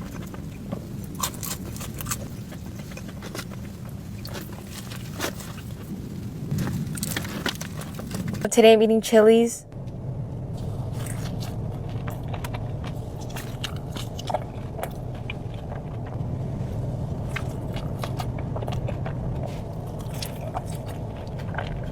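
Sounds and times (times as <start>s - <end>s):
crunchy chewing: 0.0s - 8.4s, 10.5s - 21.9s
steady low hum: 0.0s - 21.9s.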